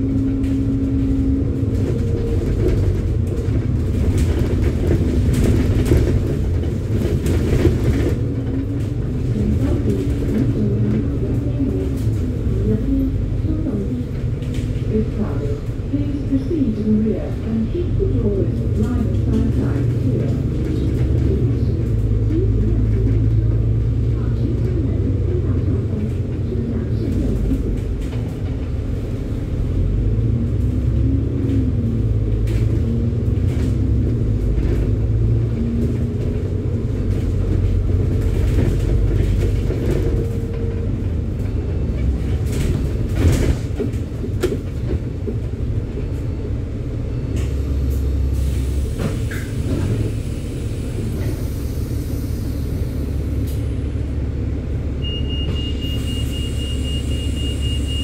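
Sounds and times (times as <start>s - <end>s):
bus body rumbling: 0.0s - 58.0s
bus engine running: 0.0s - 58.0s.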